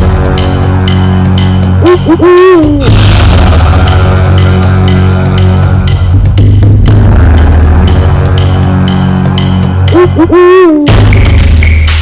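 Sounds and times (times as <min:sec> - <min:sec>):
droning bass music with beat: 0:00.0 - 0:12.0.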